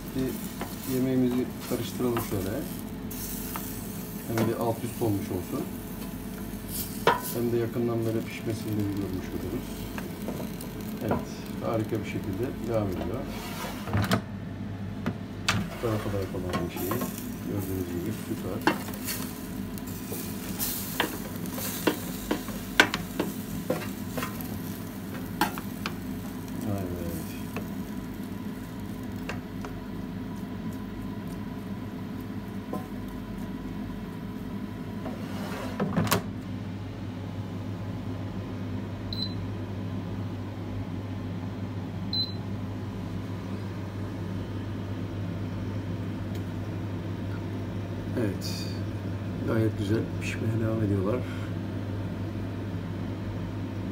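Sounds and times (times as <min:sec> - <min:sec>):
air fryer humming: 0:00.0 - 0:53.9.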